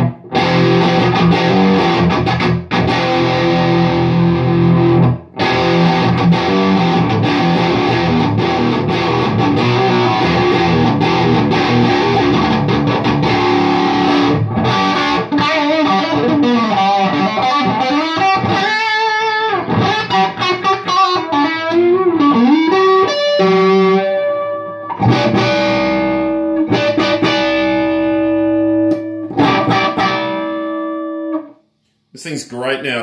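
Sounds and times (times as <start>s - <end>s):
overdriven electric guitar: 0.0s - 31.6s.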